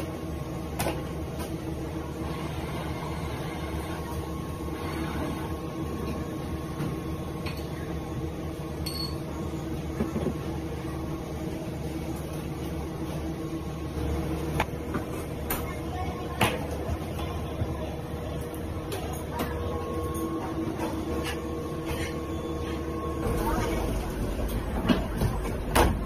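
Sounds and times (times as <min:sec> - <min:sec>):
kitchen machinery hum: 0:00.0 - 0:26.0.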